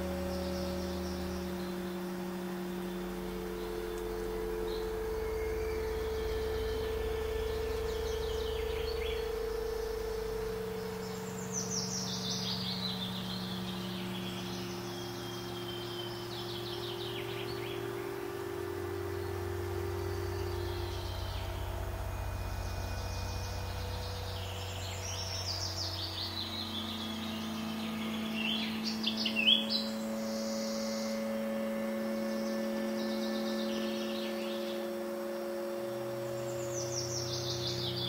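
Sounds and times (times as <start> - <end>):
bird chirps and trills: 0.0 - 38.0
low drone of held tones: 0.0 - 38.0.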